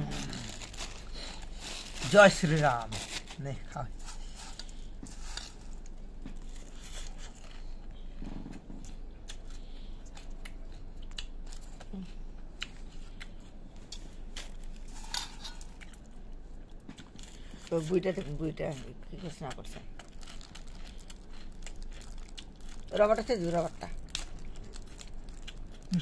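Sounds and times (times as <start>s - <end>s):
puffed rice crunching: 0.0s - 7.9s, 8.8s - 26.0s.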